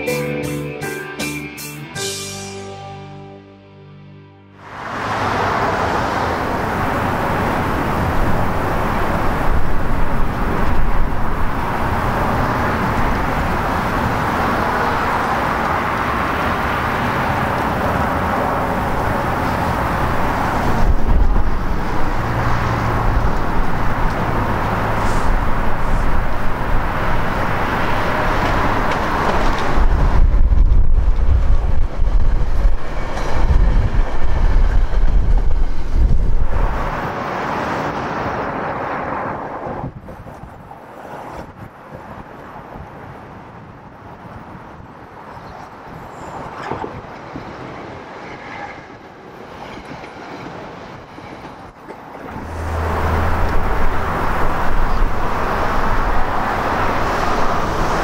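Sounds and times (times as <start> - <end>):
train rumbling past: 4.6 - 58.0
wind buffeting microphone: 6.0 - 37.2, 38.0 - 58.0.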